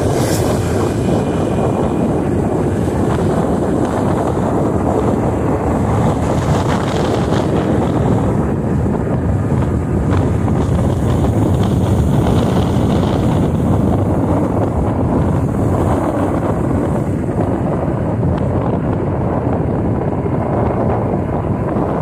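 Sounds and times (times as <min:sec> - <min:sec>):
motorcycle running: 0:00.0 - 0:22.0
wind buffeting microphone: 0:00.0 - 0:22.0.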